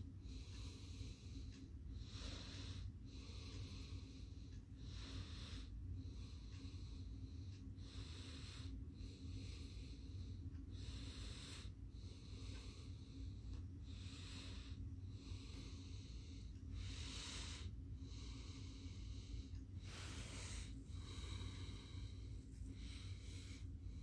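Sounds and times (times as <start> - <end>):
low steady hum: 0.0 - 24.0
slow even breathing: 0.4 - 24.0.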